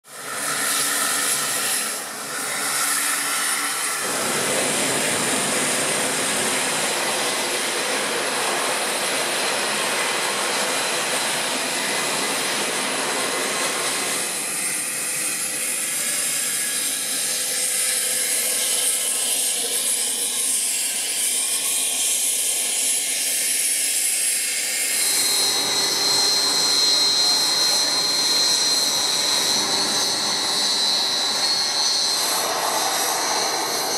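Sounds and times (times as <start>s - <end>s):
aircraft turbine engines whining: 0.1s - 33.9s.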